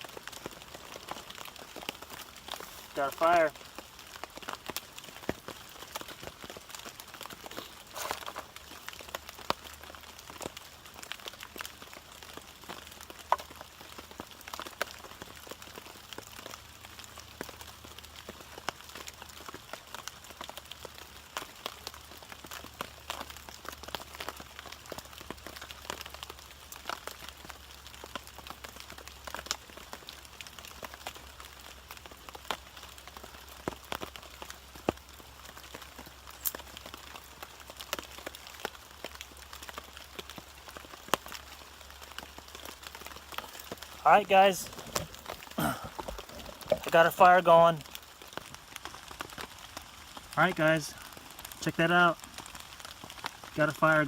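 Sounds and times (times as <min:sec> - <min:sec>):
rain hiss: 0:00.0 - 0:54.0
raindrops ticking on surfaces: 0:00.0 - 0:54.0.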